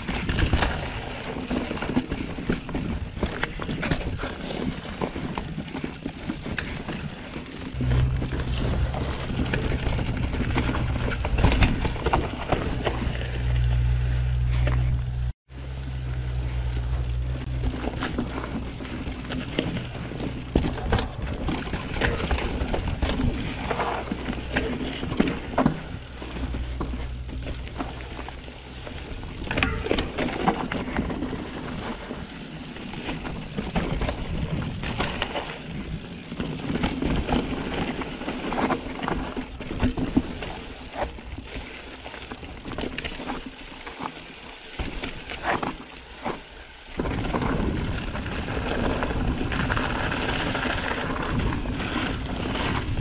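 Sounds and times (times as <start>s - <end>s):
bike rattling and clacking: 0.0s - 15.3s, 15.9s - 53.0s
mountain bike riding noise: 0.0s - 53.0s.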